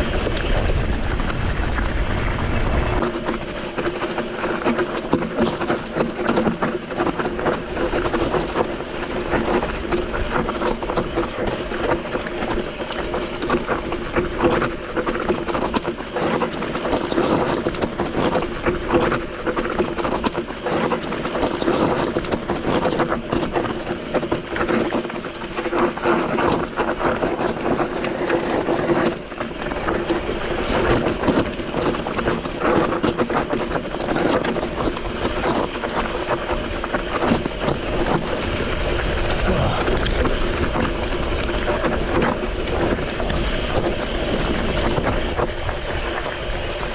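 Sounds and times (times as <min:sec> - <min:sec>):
bike rattling over rough ground: 0:00.0 - 0:46.9
wind on microphone: 0:00.0 - 0:46.9.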